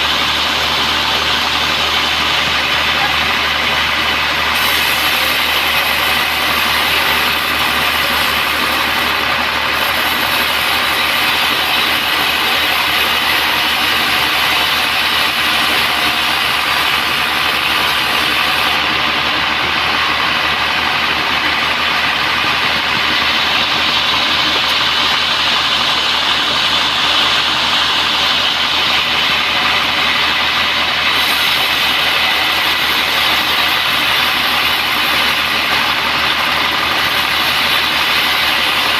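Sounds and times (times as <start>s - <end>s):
sawmill machine drone with hiss: 0.0s - 38.9s.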